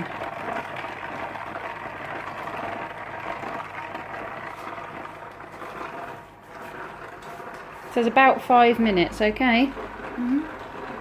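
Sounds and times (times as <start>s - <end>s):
ice cream maker cranking rattle: 0.0s - 11.0s.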